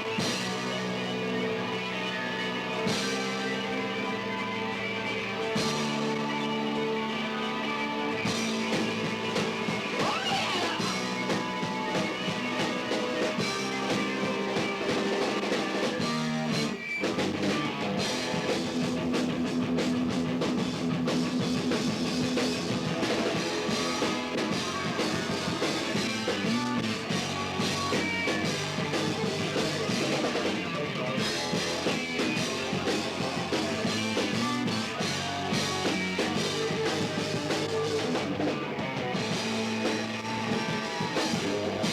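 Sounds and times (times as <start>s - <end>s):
heavy metal band playing live: 0.0s - 41.9s.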